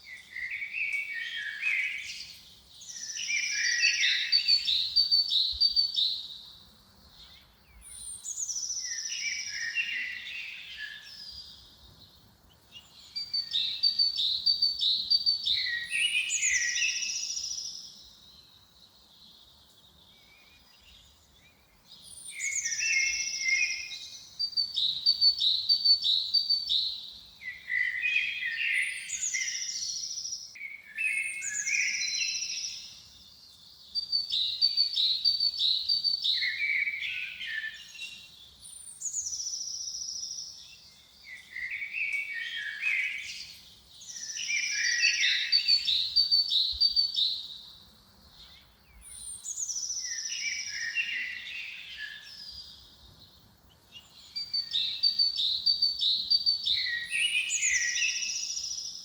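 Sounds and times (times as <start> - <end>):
songbird singing high phrase: 0.0 - 59.0.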